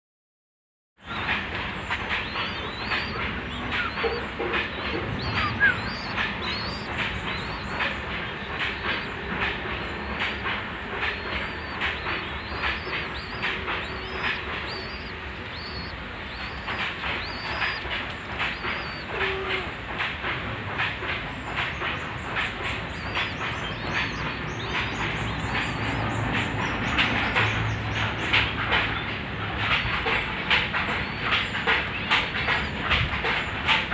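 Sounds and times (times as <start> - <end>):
steady background noise: 1.0 - 33.9
pet bird chirping: 1.1 - 19.7, 21.2 - 33.9.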